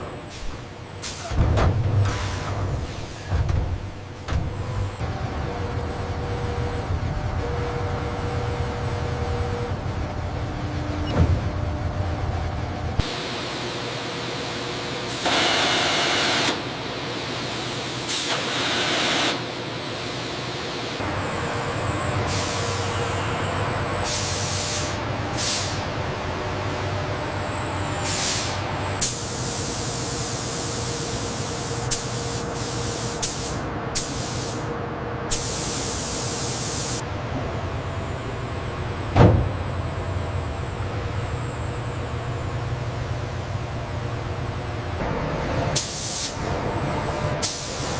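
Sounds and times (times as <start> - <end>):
machinery humming: 0.0 - 47.9.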